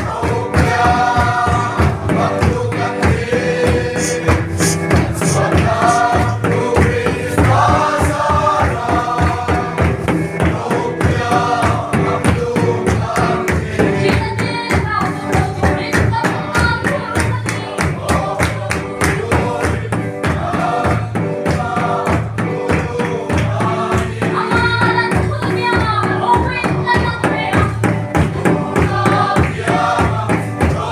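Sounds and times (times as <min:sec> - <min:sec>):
fast drum beat: 0:00.0 - 0:30.9
group singing a hymn: 0:00.0 - 0:30.9.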